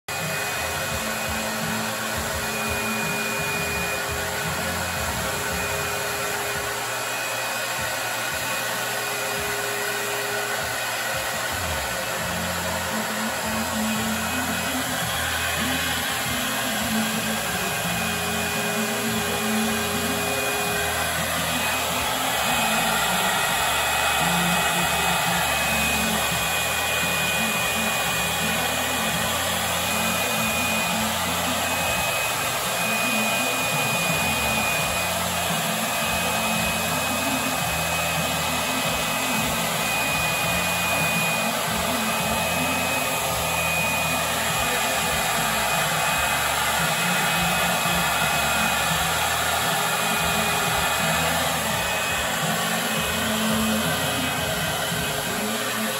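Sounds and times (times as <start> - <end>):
paint sprayer hissing: 0.2 - 36.0, 40.6 - 55.9.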